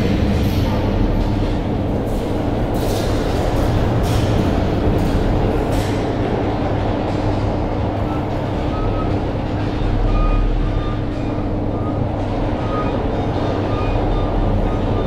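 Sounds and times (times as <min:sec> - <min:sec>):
train rumble inside coach: 0:00.0 - 0:15.0.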